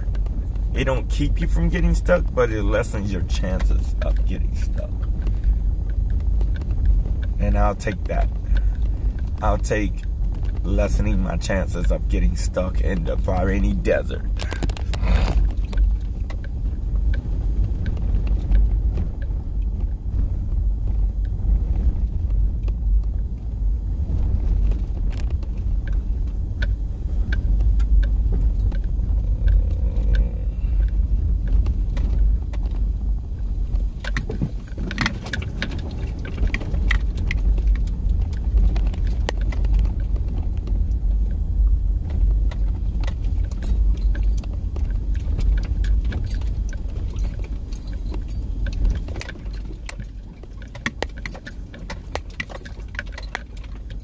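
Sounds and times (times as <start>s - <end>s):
engine and tyres rumbling: 0.0s - 54.0s.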